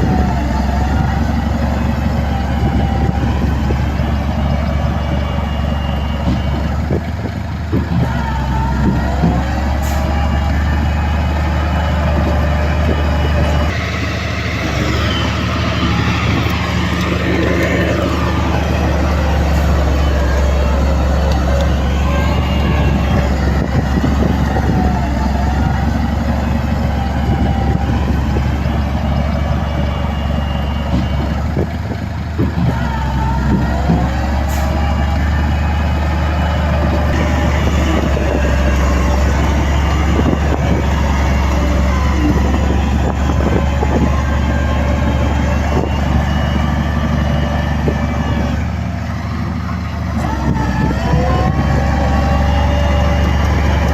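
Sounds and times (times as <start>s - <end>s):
diesel machinery engine drone: 0.0s - 53.9s.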